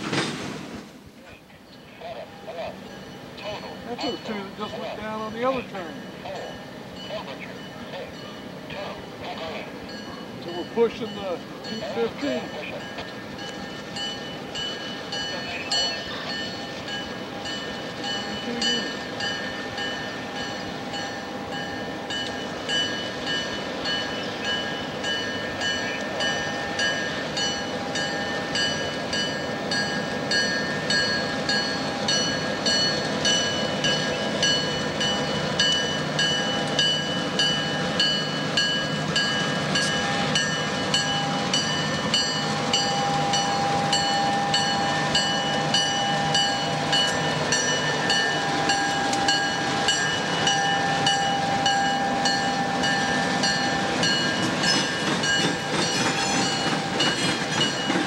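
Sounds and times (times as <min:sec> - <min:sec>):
diesel locomotive engines running: 0:00.0 - 0:58.0
bell ringing: 0:09.9 - 0:58.0.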